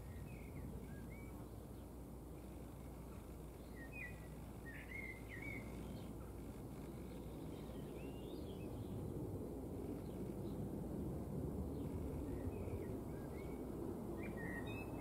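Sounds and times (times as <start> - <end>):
small birds chirping: 0.0 - 10.7, 11.7 - 15.0
low outdoor rumble: 0.0 - 15.0.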